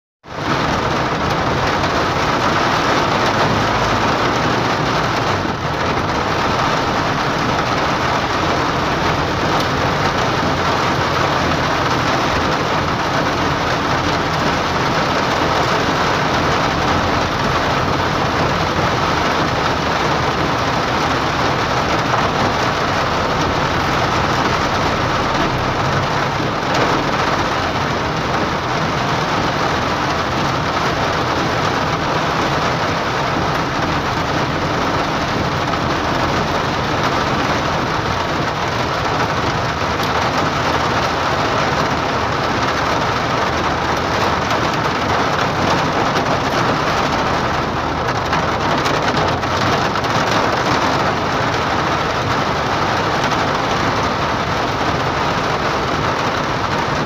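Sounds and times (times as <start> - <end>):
hard rain on car roof: 0.2 - 57.0
car road noise: 0.3 - 57.0.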